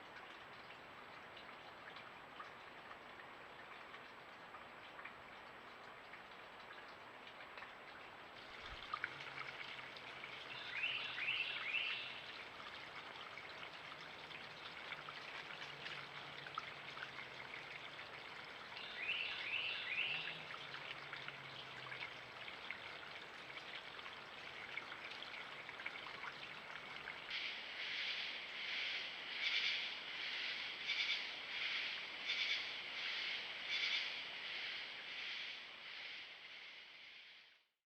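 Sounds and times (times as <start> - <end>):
creek flowing: 0.0 - 37.7.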